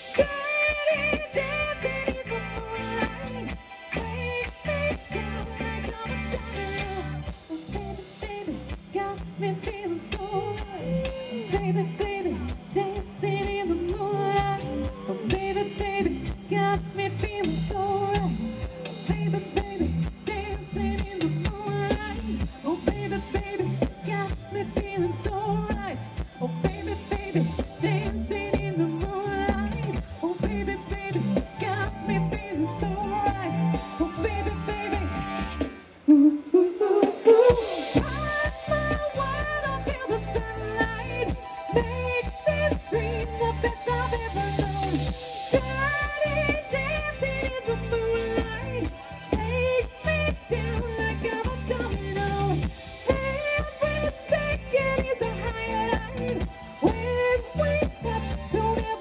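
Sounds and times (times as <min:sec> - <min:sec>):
steady drum beat: 0:00.0 - 0:35.9, 0:37.0 - 0:59.0
hummed vocals: 0:00.0 - 0:59.0
live pop band music: 0:00.0 - 0:59.0.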